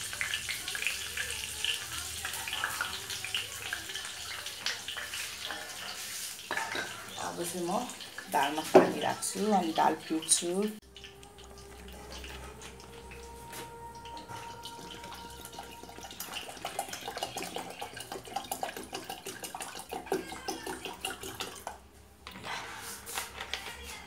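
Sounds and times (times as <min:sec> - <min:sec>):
water pouring into a pot: 0:00.0 - 0:21.9.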